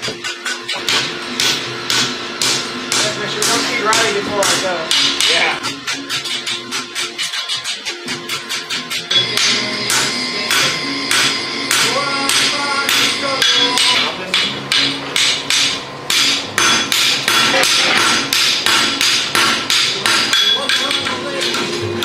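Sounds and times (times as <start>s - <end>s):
hammer ringing on anvil: 0.0s - 21.7s.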